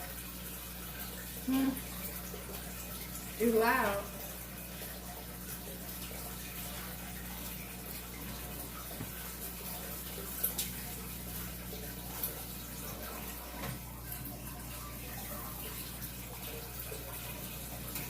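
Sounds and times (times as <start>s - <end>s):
aquarium air pump humming: 0.0s - 18.0s
water bubbling in fish tank: 0.0s - 18.0s.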